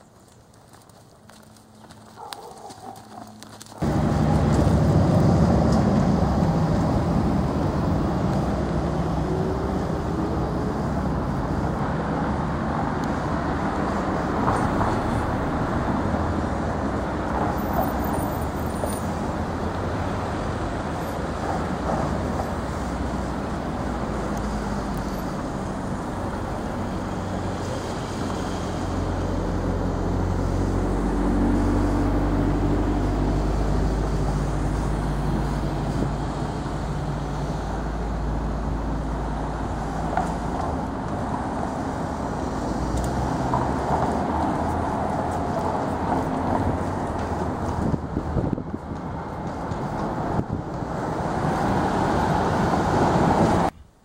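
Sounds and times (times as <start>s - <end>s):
cars passing: 0.0s - 53.8s
car engine close by: 1.5s - 53.8s.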